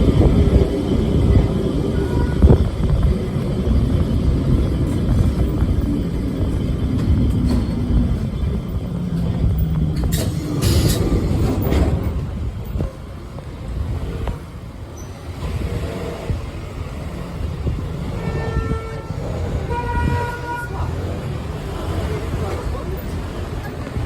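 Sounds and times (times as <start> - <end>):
tram running on rails: 0.0 - 24.0.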